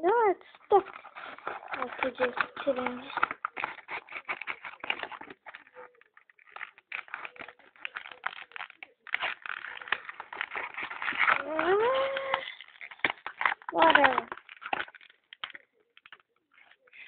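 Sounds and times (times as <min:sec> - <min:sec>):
plastic packaging crackling and clicking: 0:00.1 - 0:17.0.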